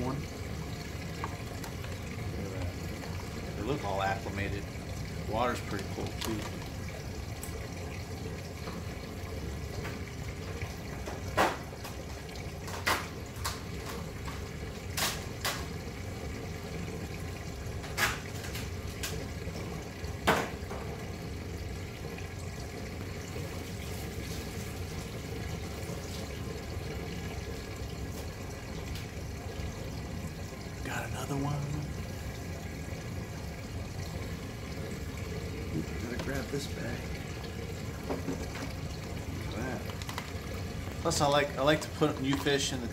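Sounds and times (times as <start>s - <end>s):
water running: 0.0s - 42.9s.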